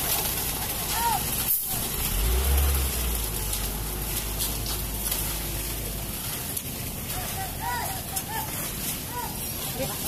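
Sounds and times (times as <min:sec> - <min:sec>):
concrete mixer truck running: 0:00.0 - 0:10.0
rakes scraping wet concrete: 0:00.0 - 0:10.0.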